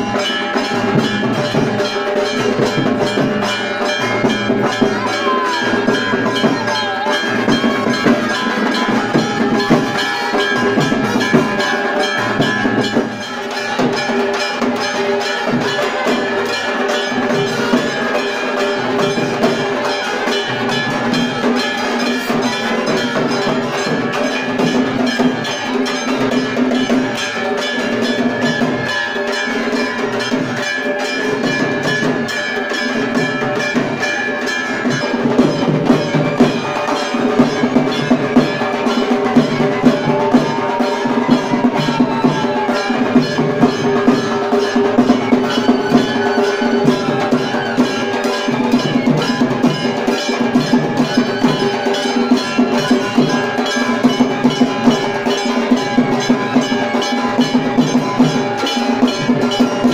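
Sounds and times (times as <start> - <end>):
bell-like metal strikes: 0.0 - 59.9.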